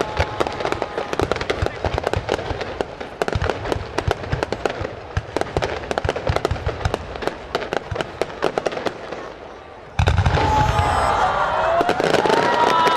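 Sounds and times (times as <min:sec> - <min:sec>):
fireworks bangs: 0:00.0 - 0:12.9
fireworks crackle and echo: 0:00.0 - 0:12.9.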